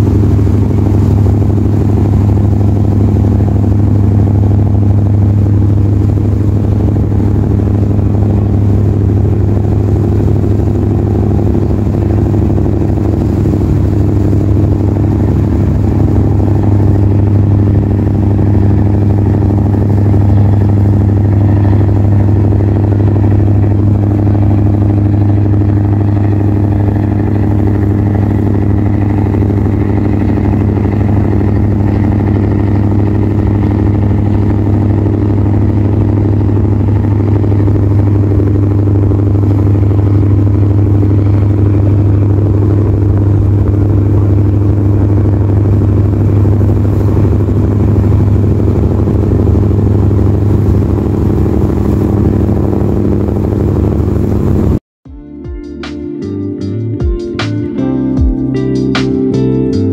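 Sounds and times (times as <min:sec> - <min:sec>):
boat engine droning: 0:00.0 - 0:54.8, 0:55.6 - 0:59.9.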